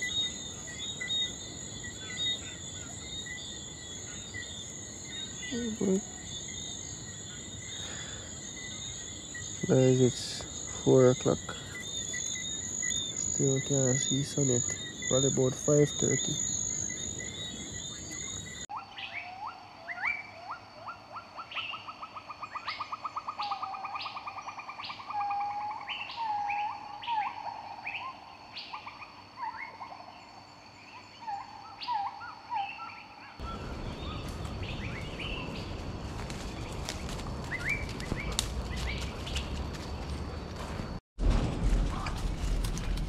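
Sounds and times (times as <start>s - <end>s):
wild birds singing: 0.0s - 40.4s
high insect hum: 0.0s - 41.0s.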